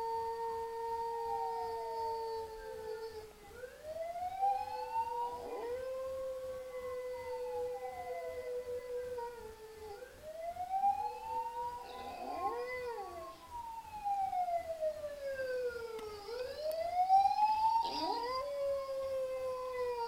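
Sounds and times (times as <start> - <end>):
dogs howling: 0.0 - 14.6, 15.8 - 20.0.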